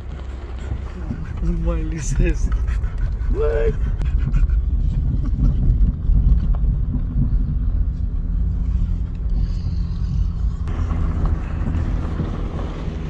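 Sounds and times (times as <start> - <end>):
engine and road noise: 0.0 - 13.0.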